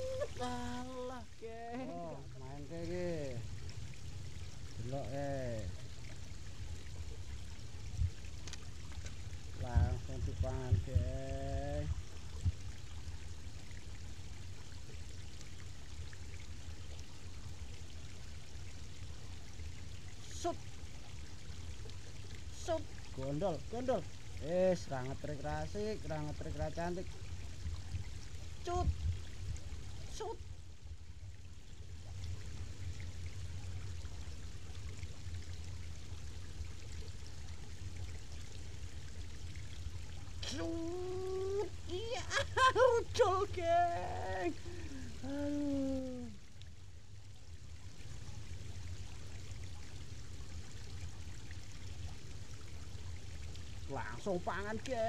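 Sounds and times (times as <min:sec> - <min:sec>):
stream water pouring over rocks: 0:00.0 - 0:55.0.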